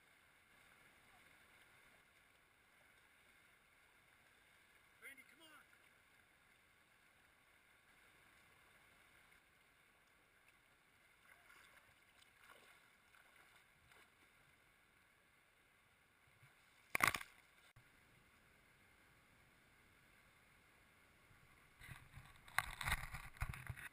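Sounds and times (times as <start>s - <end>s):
soft splashes of wading: 0.0s - 23.6s
muffled flowing river water: 0.0s - 23.9s.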